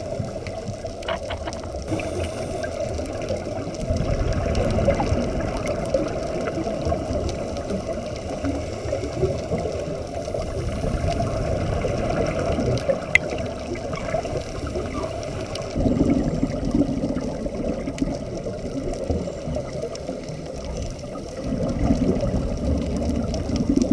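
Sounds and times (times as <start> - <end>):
bubbling of exhaled breath: 0.0 - 23.9
muffled underwater noise: 0.0 - 23.9.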